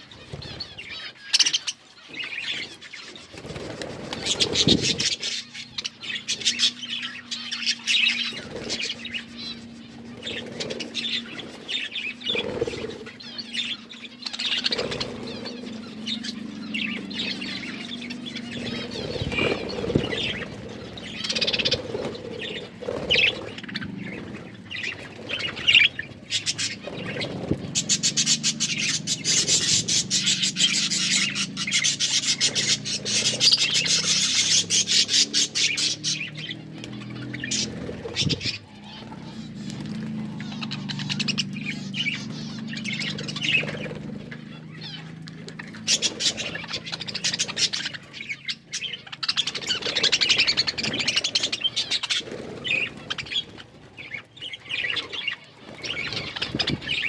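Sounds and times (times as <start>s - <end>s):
budgerigars chirping and squawking: 0.0s - 57.0s.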